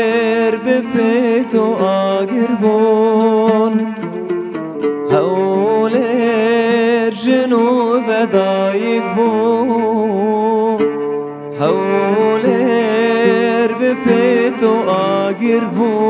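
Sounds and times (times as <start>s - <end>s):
man singing long notes: 0.0s - 4.3s, 5.1s - 10.9s, 11.5s - 16.0s
bowed cello: 0.0s - 16.0s
oud: 0.0s - 16.0s.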